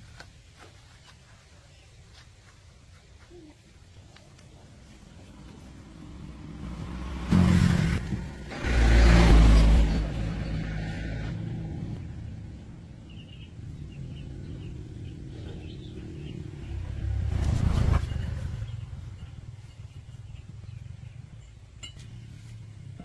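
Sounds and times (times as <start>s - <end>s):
vehicle engine rumbling: 3.8s - 23.0s.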